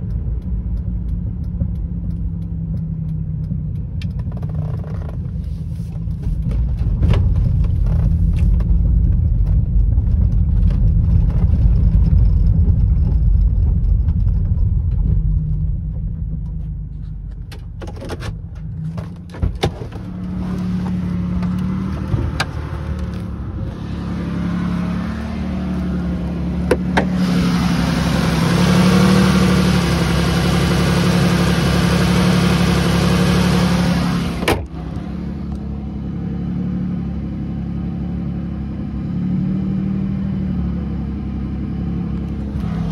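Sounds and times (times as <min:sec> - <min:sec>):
engine idling hum: 0:00.0 - 0:39.1
car cabin rumble while driving: 0:00.0 - 0:42.9.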